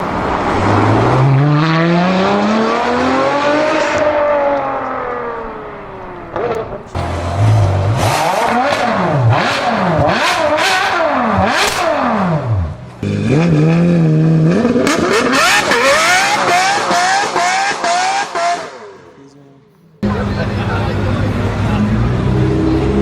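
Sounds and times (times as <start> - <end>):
vehicle engine revving: 0.4 - 19.2, 20.0 - 23.0.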